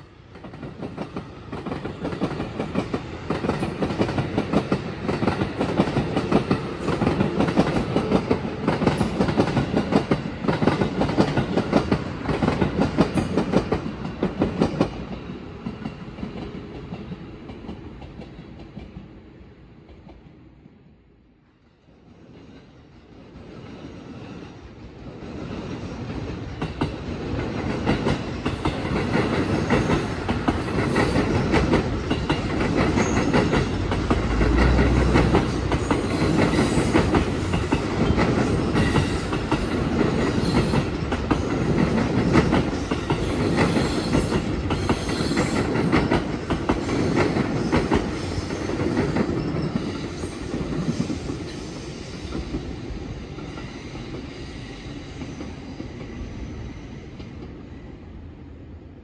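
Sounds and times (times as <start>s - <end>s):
electric train passing: 0.0s - 20.9s, 22.0s - 59.0s.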